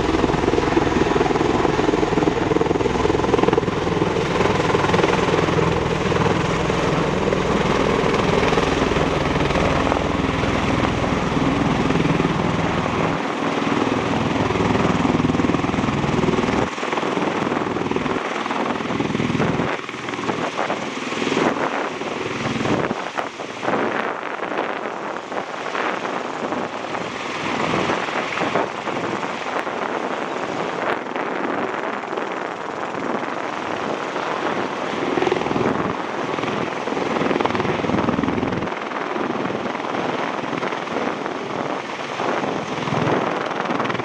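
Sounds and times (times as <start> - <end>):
aircraft rotor and engine noise: 0.0 - 44.0.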